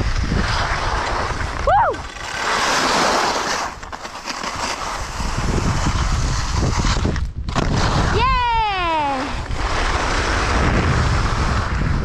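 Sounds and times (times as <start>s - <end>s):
wind on microphone: 0.0s - 3.0s, 4.6s - 12.0s
skis scraping over snow: 0.0s - 12.0s.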